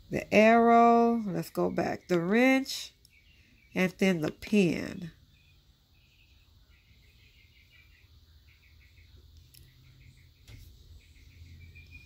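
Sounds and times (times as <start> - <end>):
faint high-pitched chirping trills: 0.0 - 12.0.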